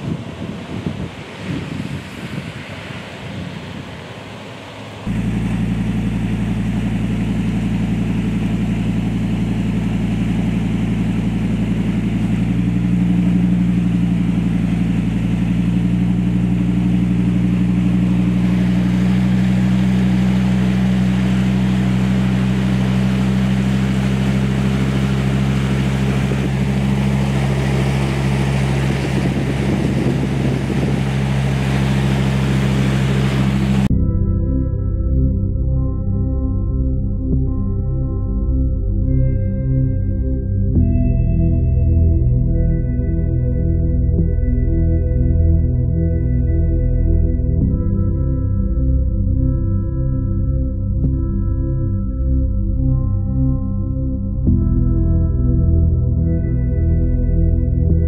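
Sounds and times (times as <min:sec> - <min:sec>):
vehicle engine hum inside cab: 0:00.0 - 0:58.0.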